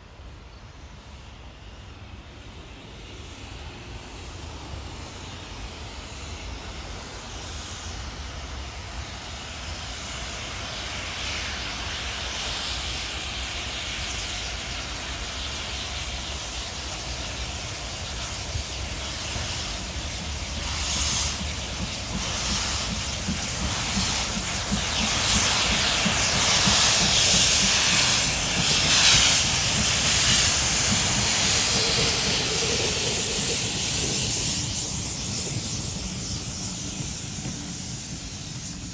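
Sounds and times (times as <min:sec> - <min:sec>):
steam locomotive approaching: 0:00.0 - 0:38.9
locomotive steam hiss: 0:02.4 - 0:38.9.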